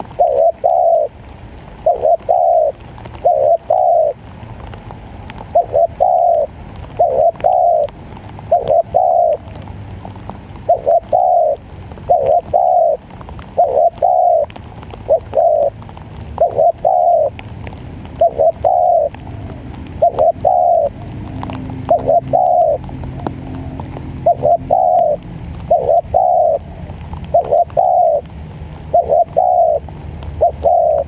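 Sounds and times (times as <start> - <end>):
dove cooing: 0.0 - 4.2, 5.4 - 9.7, 10.5 - 17.4, 18.1 - 31.0.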